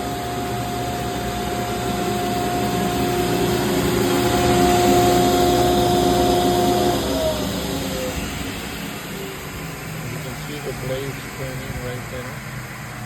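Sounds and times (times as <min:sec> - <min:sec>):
saw blades spinning whine: 0:00.0 - 0:13.0.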